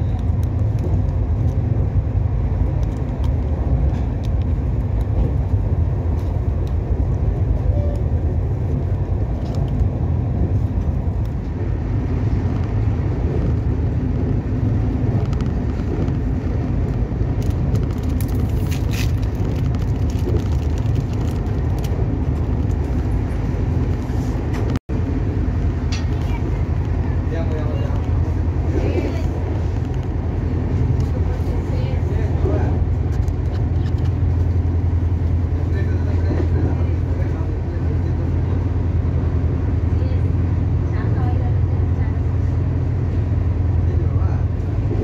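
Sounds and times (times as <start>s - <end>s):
train coach rumble: 0.0s - 45.0s.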